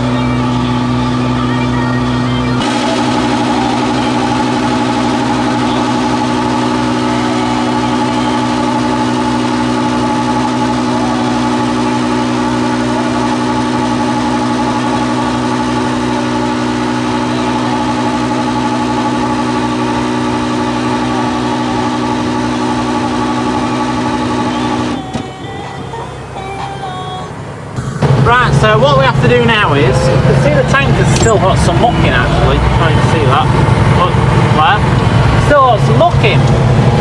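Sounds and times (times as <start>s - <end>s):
steady whining tone: 0.0s - 37.0s
tractor diesel engine running: 0.0s - 37.0s.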